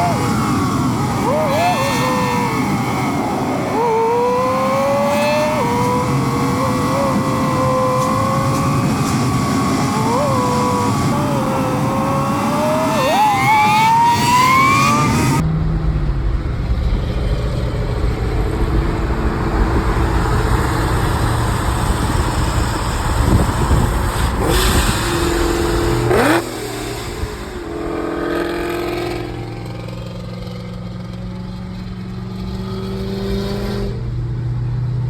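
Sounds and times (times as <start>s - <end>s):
car engine running and revving: 0.0s - 35.0s.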